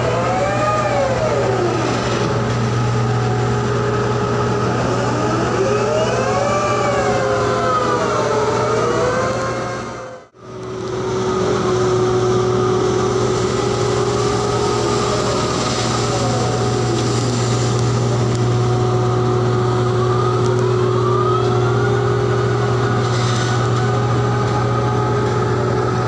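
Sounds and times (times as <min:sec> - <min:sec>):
low diesel drone: 0:00.0 - 0:26.0
winch whining: 0:00.0 - 0:26.0.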